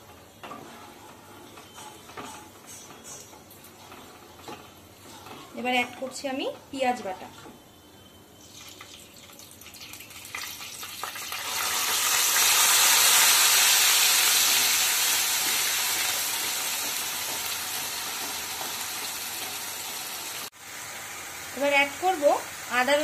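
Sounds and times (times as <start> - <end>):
onion paste sizzling in oil: 0.0 - 23.0.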